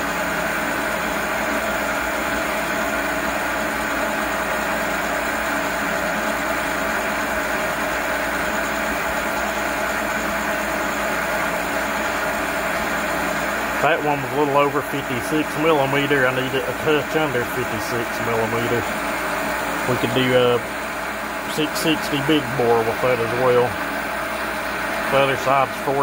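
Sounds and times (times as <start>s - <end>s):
metal lathe cutting: 0.0s - 26.0s.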